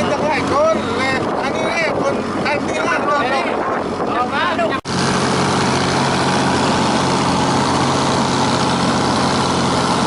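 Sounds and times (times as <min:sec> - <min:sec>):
boat engine running: 0:00.0 - 0:10.0
broad rushing noise: 0:00.0 - 0:10.0.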